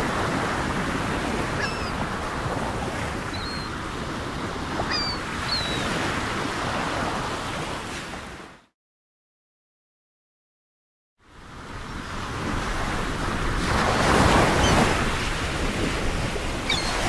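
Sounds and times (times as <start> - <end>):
ocean surf washing: 0.0 - 8.6, 11.3 - 17.0.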